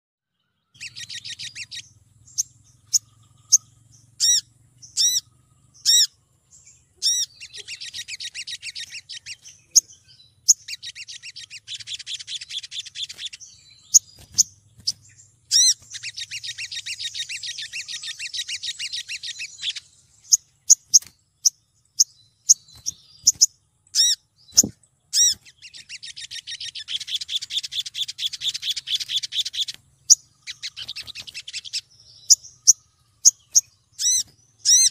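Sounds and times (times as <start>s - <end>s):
bird trilling: 0.7s - 34.9s.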